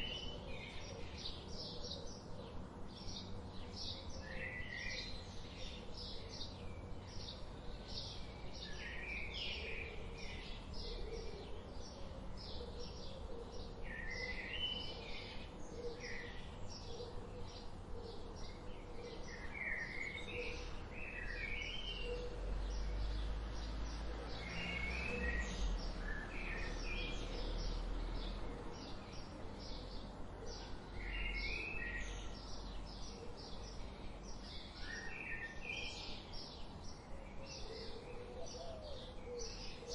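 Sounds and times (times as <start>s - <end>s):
bird song phrases: 0.0s - 39.9s
wild birds chirping: 0.0s - 39.9s.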